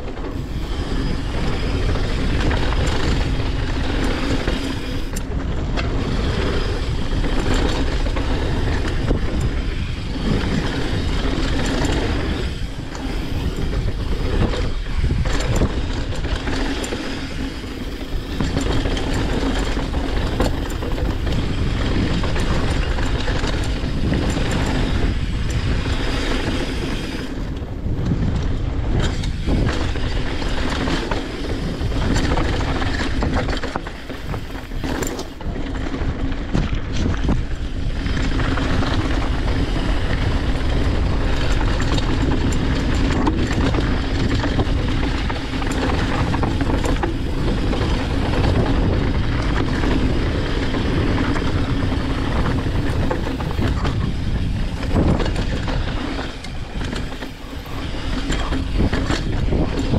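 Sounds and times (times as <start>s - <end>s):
bike rattling over bumps: 0.0s - 59.9s
bike tyres on gravel: 0.0s - 59.9s.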